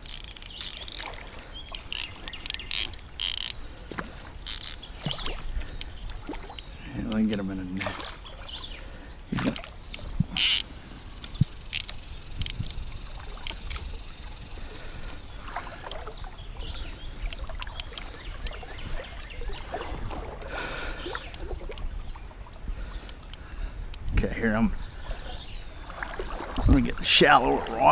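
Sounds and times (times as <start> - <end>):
water splashing: 0.0 - 23.1, 25.0 - 27.9.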